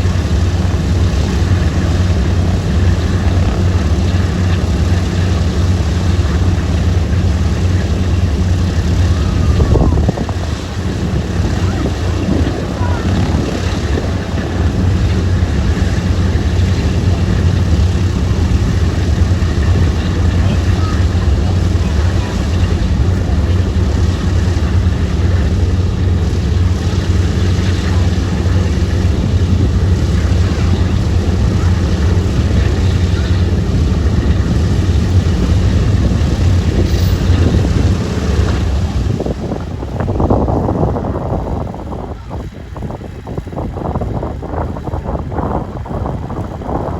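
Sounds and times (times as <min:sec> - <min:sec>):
propeller aircraft engines droning: 0:00.0 - 0:46.9.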